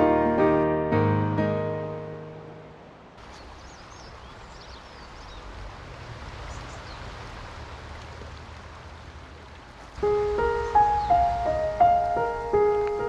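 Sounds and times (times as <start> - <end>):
brook flowing: 1.8 - 13.0.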